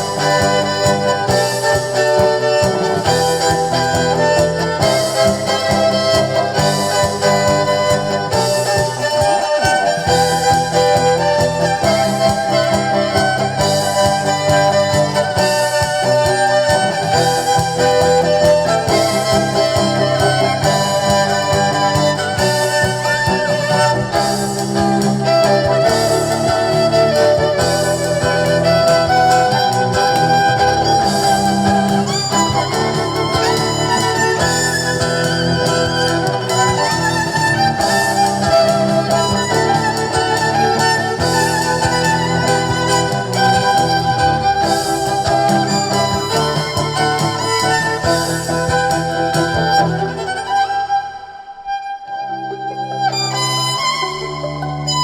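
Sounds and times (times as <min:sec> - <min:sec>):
live band playing: 0:00.0 - 0:55.0
violin melody: 0:00.0 - 0:55.0.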